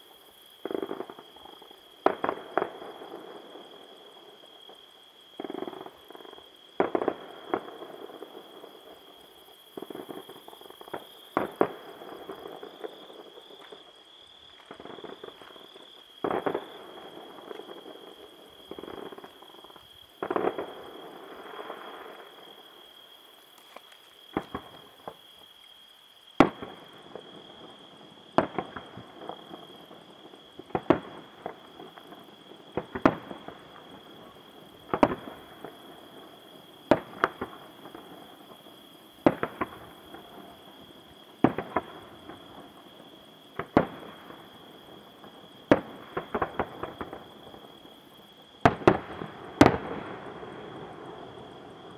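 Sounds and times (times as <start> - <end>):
fireworks bangs and crackle: 0.0 - 13.9, 14.5 - 22.6, 23.6 - 25.4, 26.4 - 51.9.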